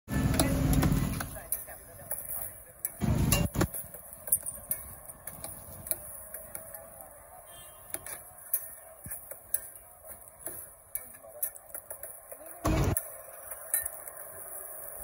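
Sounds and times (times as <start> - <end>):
metal spatula scraping on griddle: 0.1 - 15.0.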